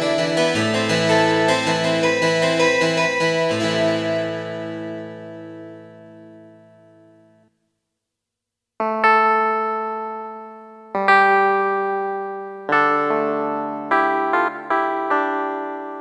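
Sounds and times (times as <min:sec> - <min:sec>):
electric piano chords: 0:00.0 - 0:07.4, 0:08.8 - 0:16.0.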